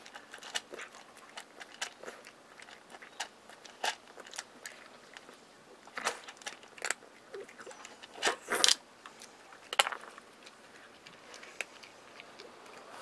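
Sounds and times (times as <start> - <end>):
cat crunching dry kibble: 0.0 - 13.0.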